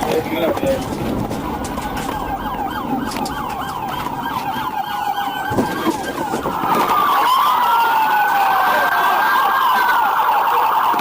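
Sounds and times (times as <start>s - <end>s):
police siren yelping: 0.8s - 11.0s.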